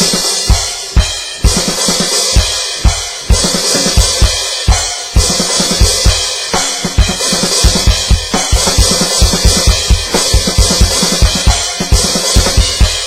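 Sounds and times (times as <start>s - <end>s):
electronic drum kit groove: 0.0s - 13.0s.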